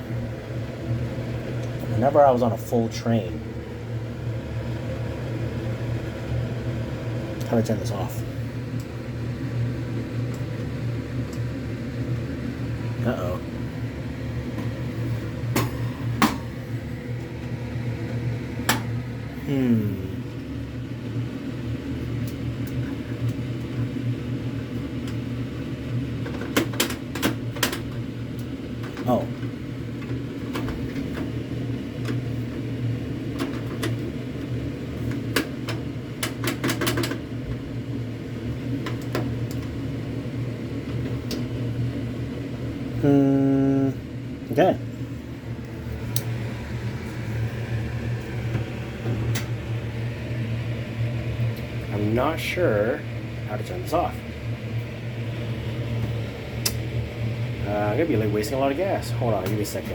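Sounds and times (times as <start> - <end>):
gas burner rumbling: 0.0 - 59.9.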